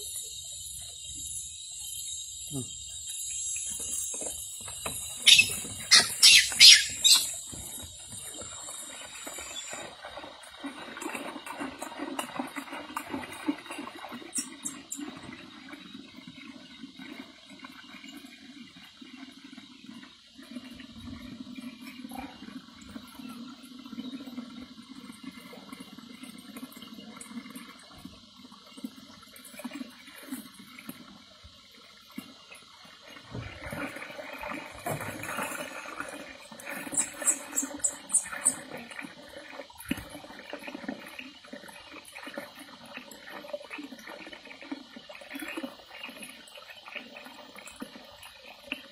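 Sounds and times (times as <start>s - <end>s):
water pouring into basin: 0.0s - 48.9s.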